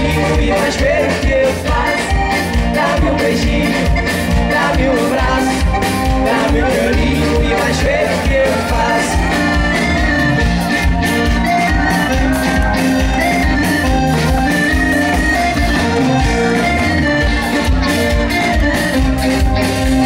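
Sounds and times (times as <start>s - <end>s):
live band playing dance music: 0.0s - 20.0s.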